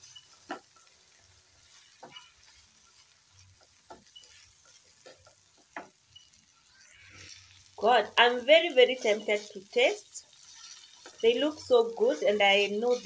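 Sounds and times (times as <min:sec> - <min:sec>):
spatula scraping a pan: 0:00.0 - 0:07.7, 0:08.3 - 0:13.0
fish frying in a pan: 0:00.0 - 0:13.0.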